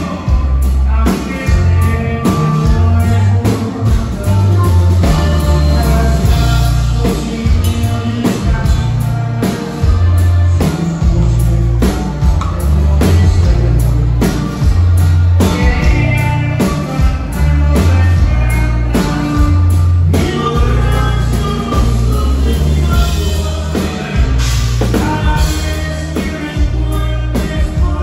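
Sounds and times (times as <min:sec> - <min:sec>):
guitars: 0:00.0 - 0:28.0
heavy electric bass line: 0:00.0 - 0:28.0
steady drum beat: 0:00.0 - 0:28.0.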